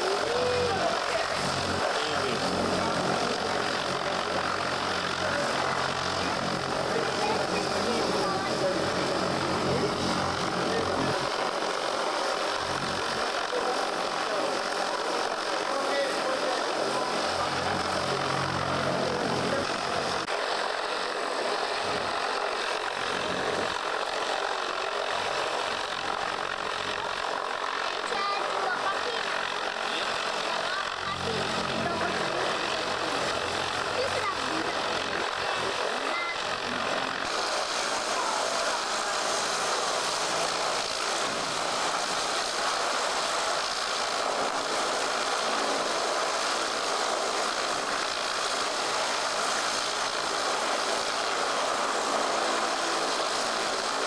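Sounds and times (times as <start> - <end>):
turboprop engine idling: 0.0 - 54.0.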